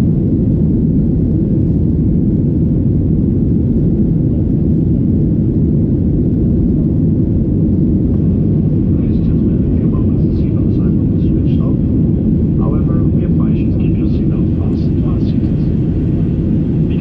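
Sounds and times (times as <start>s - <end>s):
air rushing along fuselage: 0.0s - 17.0s
jet engines rumbling: 0.0s - 17.0s.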